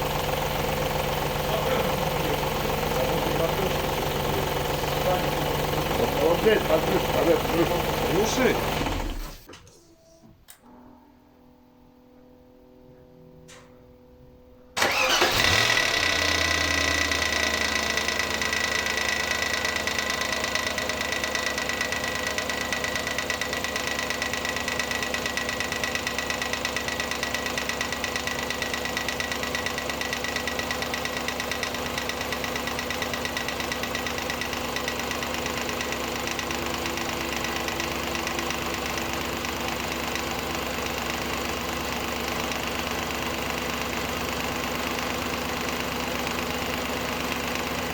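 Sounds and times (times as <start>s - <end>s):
car engine starting and idling: 0.0s - 9.5s, 14.8s - 47.9s.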